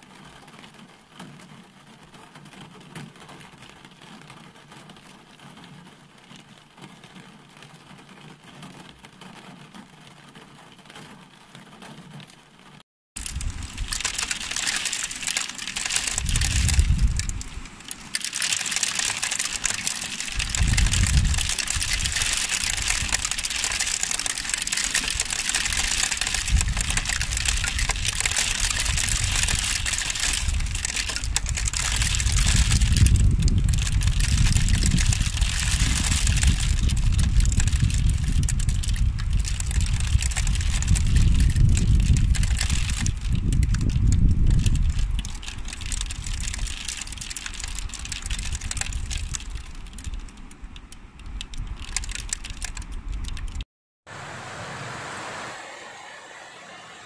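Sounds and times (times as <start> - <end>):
heavy rain patter: 0.0 - 57.0.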